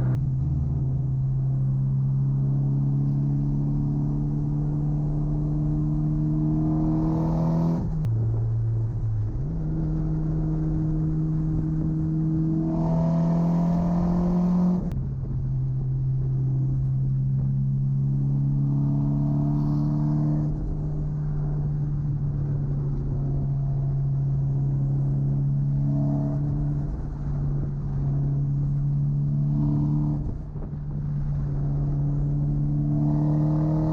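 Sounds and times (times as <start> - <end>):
car engine accelerating through gears: 0.0 - 33.9.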